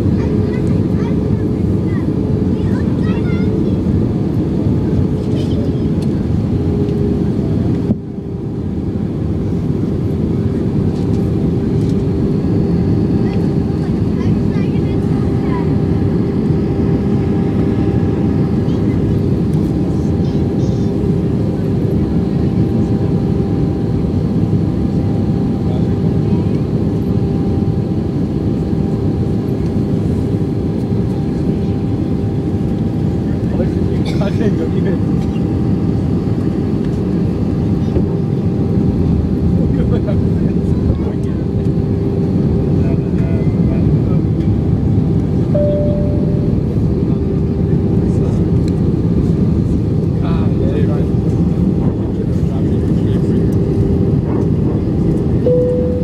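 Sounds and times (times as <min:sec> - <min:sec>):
constant hum: 0:00.0 - 0:56.0
jet engine roar in cabin: 0:00.0 - 0:56.0.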